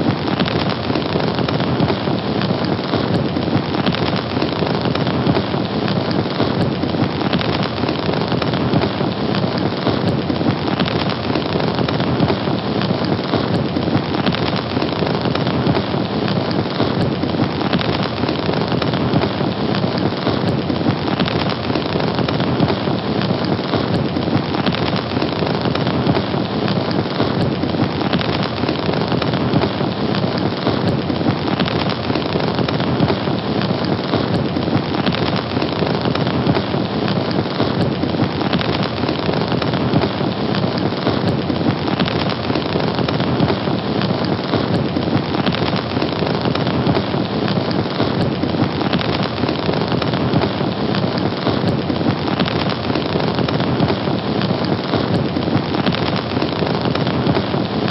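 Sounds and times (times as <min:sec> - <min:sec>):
fire crackling: 0:00.0 - 0:57.9.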